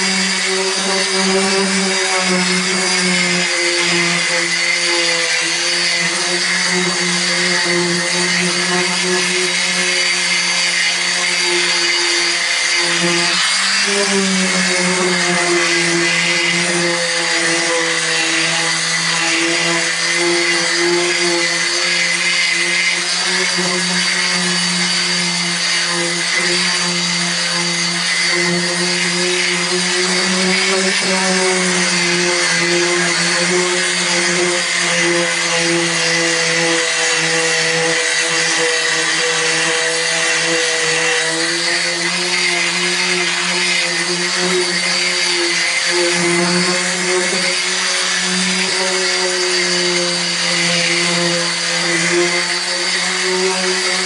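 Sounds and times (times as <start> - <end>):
power sander humming: 0.0 - 54.0.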